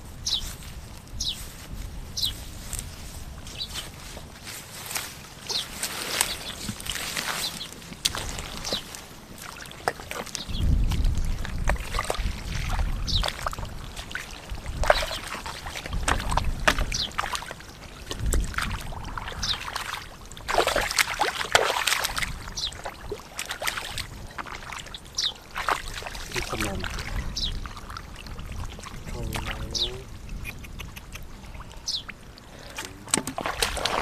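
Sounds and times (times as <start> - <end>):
muddy water splashing: 0.0 - 34.0.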